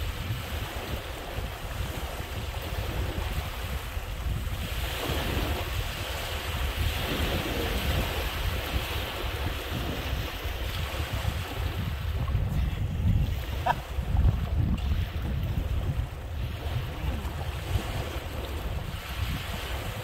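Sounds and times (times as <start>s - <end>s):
waves lapping on a sandy shore: 0.0s - 20.0s
wind buffeting the microphone: 0.0s - 20.0s.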